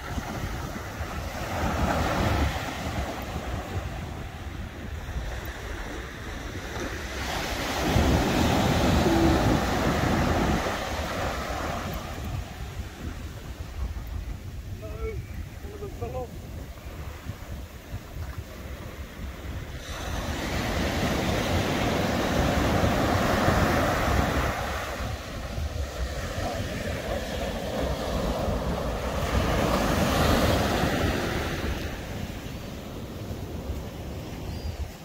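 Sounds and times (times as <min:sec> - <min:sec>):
surf washing up beach: 0:00.0 - 0:35.0
wind buffeting microphone: 0:00.0 - 0:35.0.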